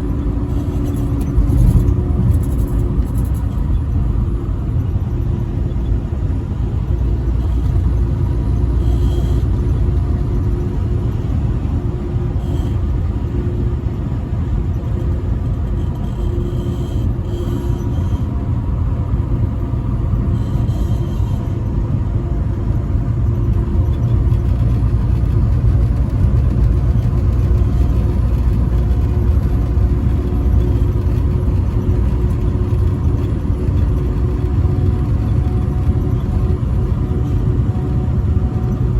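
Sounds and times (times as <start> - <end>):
road noise: 0.0 - 38.9
truck engine rumble: 0.0 - 38.9.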